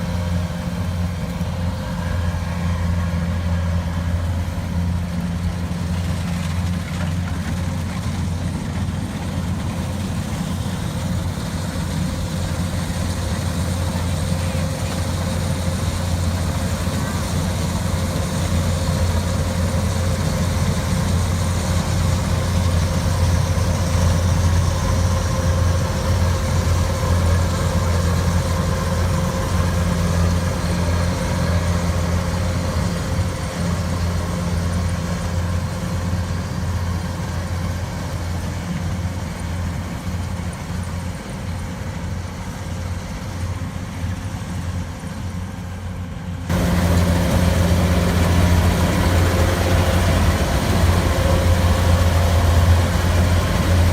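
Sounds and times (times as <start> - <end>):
harvester engine humming: 0.0 - 53.9.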